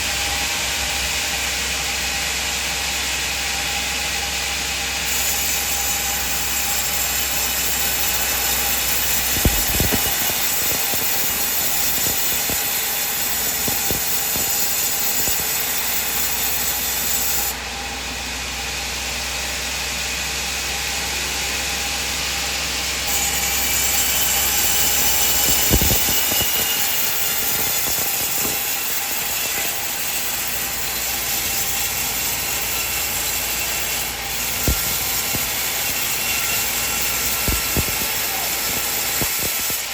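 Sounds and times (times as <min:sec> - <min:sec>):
sawmill machine sawing wood: 0:00.0 - 0:39.9.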